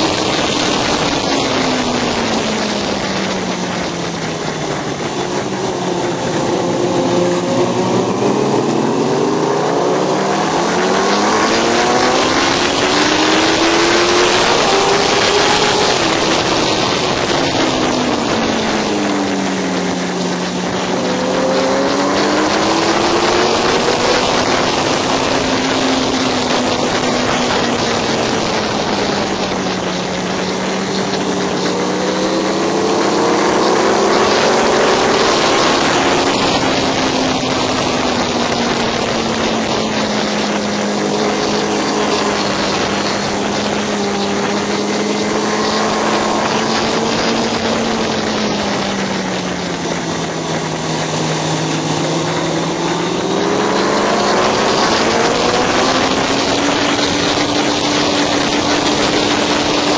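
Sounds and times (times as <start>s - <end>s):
heavy wind rush: 0.0s - 59.9s
motorcycle engine pulling: 0.0s - 59.9s.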